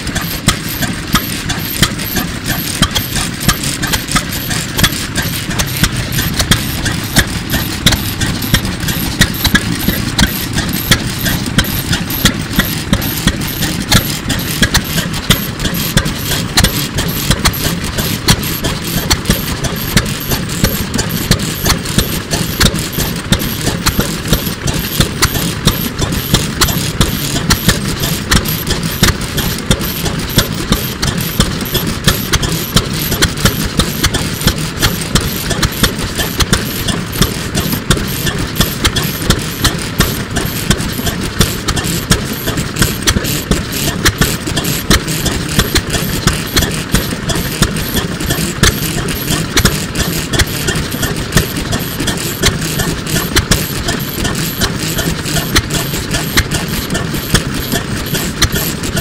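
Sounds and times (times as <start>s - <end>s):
stationary engine running: 0.0s - 59.0s.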